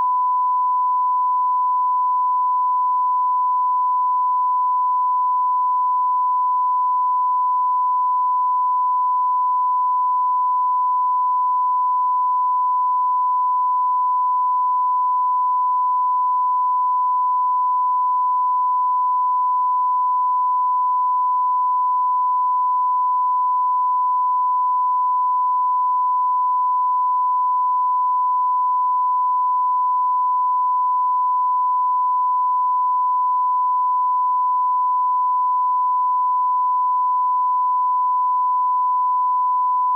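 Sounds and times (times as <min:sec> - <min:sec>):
censor beep tone: 0:00.0 - 0:39.9.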